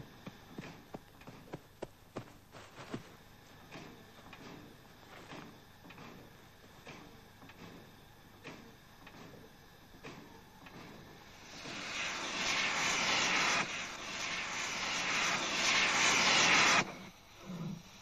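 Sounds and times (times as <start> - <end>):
steam locomotive venting steam: 0.0 - 18.0.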